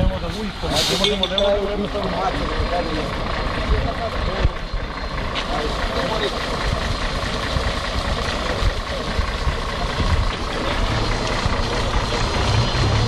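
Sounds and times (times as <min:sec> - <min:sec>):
fire truck diesel engine running: 0:00.0 - 0:13.0.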